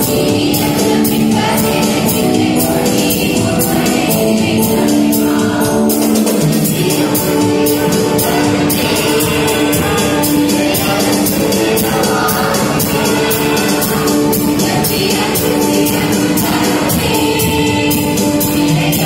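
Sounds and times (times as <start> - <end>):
keyboard accompaniment: 0.0 - 19.0
mixed choir singing: 0.0 - 19.0
steady percussion beat: 0.0 - 19.0.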